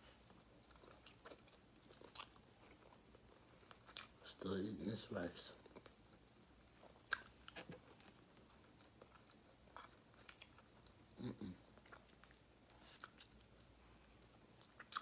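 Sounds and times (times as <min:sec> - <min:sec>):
faint chewing: 0:00.0 - 0:04.4, 0:05.5 - 0:15.0.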